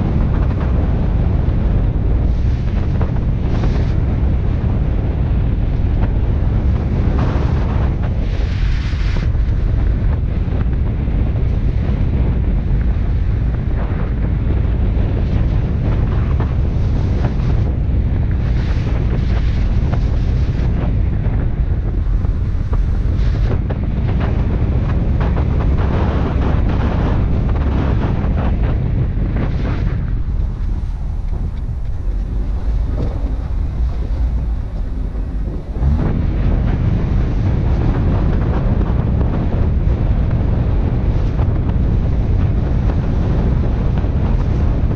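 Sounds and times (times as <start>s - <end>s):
car rumbling on road: 0.0s - 44.9s
wind buffeting microphone: 0.0s - 44.9s.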